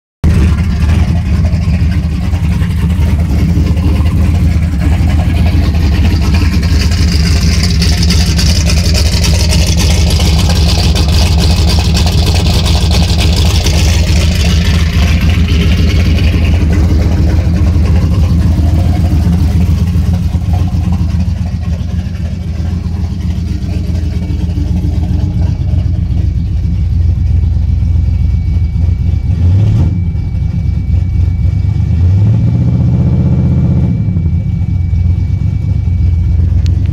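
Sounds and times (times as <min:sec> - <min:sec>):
car engine idling: 0:00.2 - 0:36.9.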